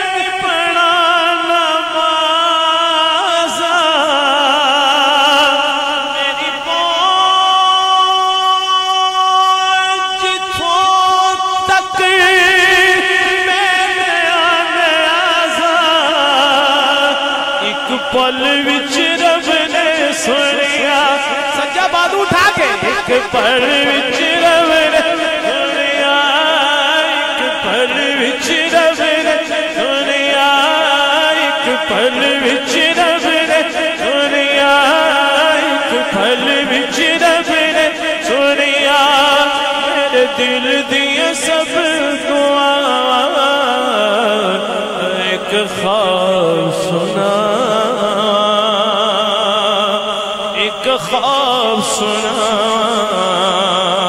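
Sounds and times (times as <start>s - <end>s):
man singing unaccompanied: 0.0s - 54.0s
voices holding a steady note: 0.0s - 54.0s.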